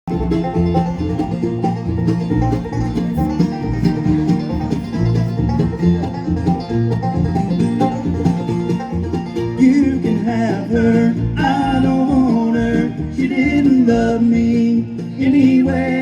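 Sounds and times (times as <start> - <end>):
banjo rolls: 0.0 - 16.0
bouncing bass line: 0.0 - 16.0
guitar: 0.0 - 16.0.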